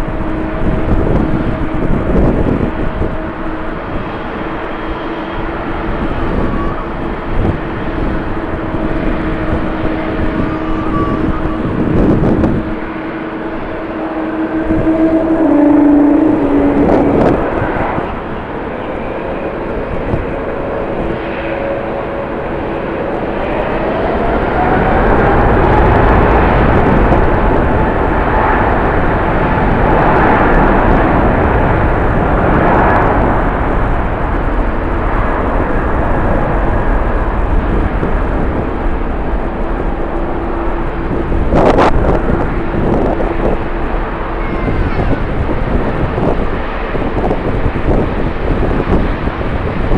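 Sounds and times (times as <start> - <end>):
jet engines whining and rumbling: 0.0 - 49.9
low hum: 0.0 - 49.9
wind buffeting microphone: 0.0 - 49.9.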